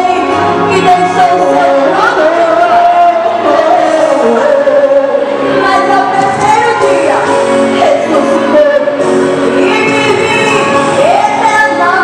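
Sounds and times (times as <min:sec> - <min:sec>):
girls singing into microphones: 0:00.0 - 0:12.0.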